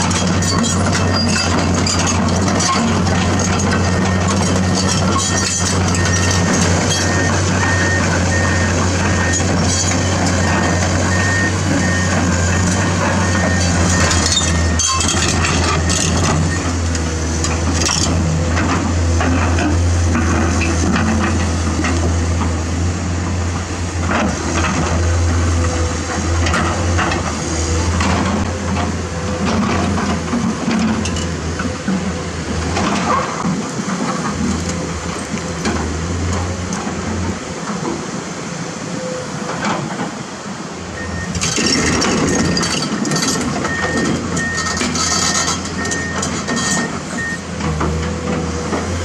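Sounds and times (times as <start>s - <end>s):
excavator diesel engine: 0.0s - 49.0s.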